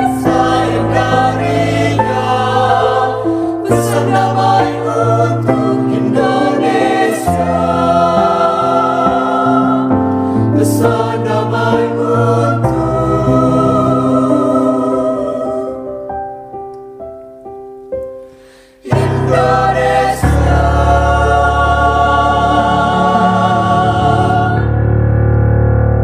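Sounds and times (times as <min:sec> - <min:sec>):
mixed choir singing: 0:00.0 - 0:16.1, 0:18.8 - 0:24.9.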